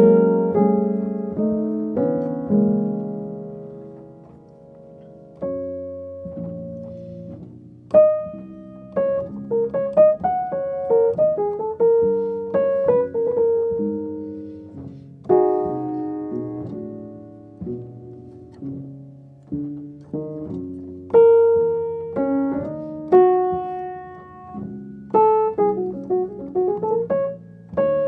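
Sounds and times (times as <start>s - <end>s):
piano chords and melody: 0.0s - 28.0s.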